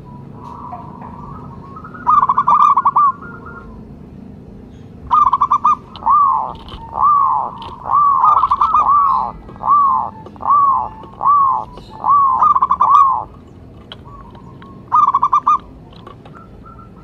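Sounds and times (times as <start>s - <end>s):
dove singing and cooing: 0.0s - 17.0s.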